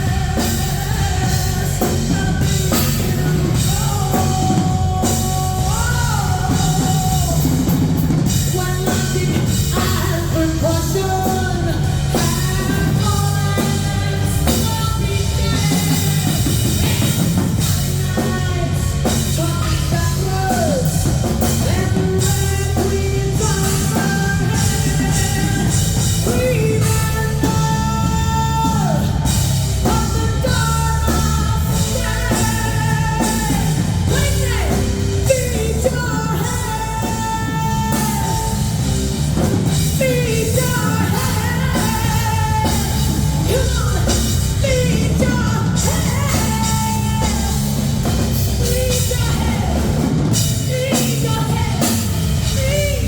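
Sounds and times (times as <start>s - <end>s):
live rock band playing: 0.0s - 53.0s
woman singing: 0.0s - 53.0s.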